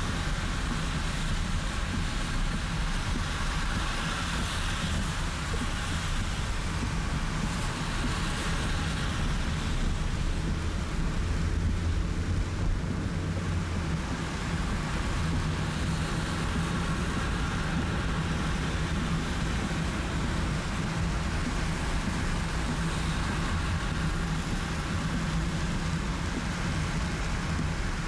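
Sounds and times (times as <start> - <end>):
car engine and road drone: 0.0 - 28.0
rain and wet tyres hiss: 0.0 - 28.0.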